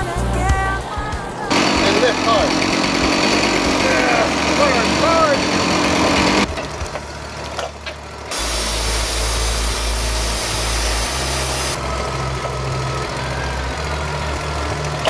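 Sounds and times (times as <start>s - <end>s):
sawmill engine idling: 1.5s - 15.0s.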